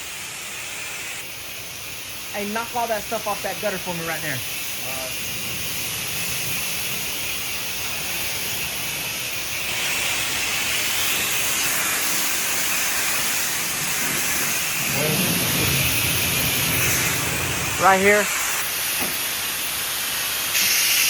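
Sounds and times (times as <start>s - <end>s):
pressure washer spraying water: 0.0s - 21.0s.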